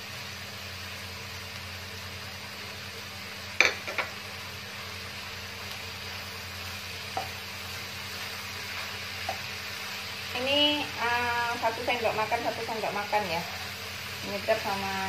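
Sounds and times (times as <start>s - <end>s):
vegetables sizzling in frying pan: 0.0s - 15.0s.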